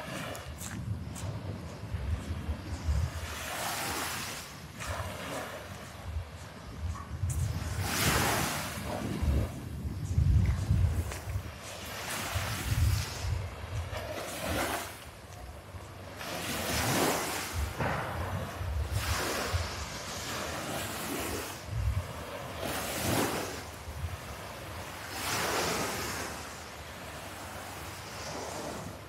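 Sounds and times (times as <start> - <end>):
waves washing onto beach: 0.0 - 29.0
wind buffeting microphone: 0.0 - 29.0.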